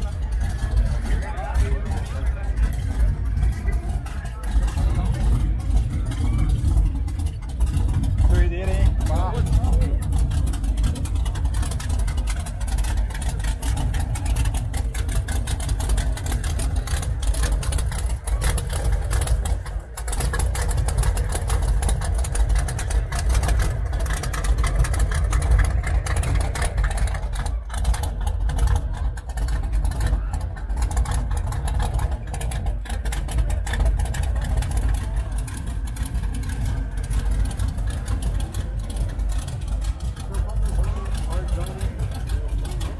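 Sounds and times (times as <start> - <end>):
engine idling rumble: 0.0 - 42.9.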